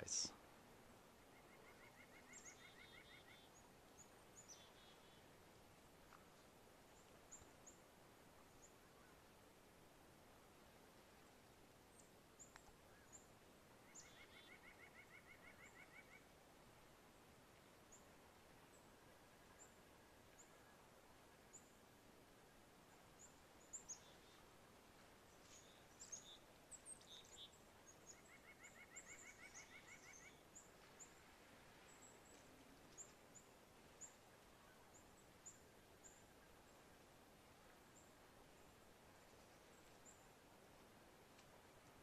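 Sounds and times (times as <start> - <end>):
faint songbird chirps: 1.2 - 9.4, 11.9 - 16.3, 17.6 - 37.2, 37.8 - 40.5.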